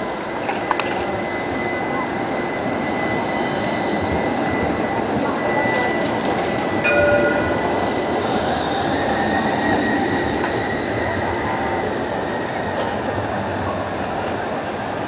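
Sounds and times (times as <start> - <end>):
high-pitched whine: 0.0 - 15.0
tram wheels rumbling on rails: 0.0 - 15.0.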